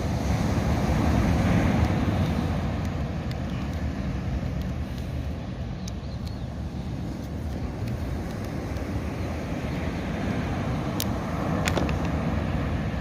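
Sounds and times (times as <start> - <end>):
surf rumble: 0.0 - 13.0
wind: 0.0 - 13.0.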